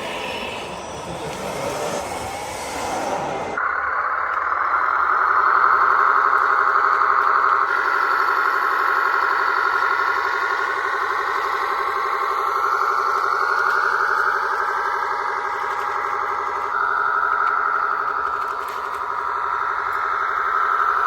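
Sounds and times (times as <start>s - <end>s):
model truck engine pulsing: 0.0s - 21.0s.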